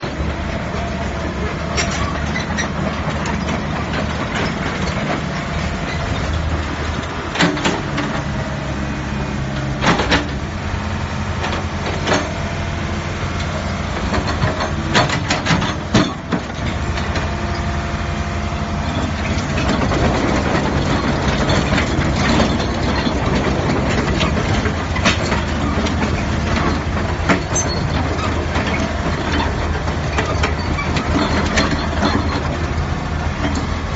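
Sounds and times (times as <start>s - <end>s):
diesel engine running: 0.0s - 33.9s
clanks and knocks: 0.1s - 8.4s, 9.6s - 10.4s, 11.4s - 12.4s, 13.4s - 17.3s, 18.9s - 33.8s.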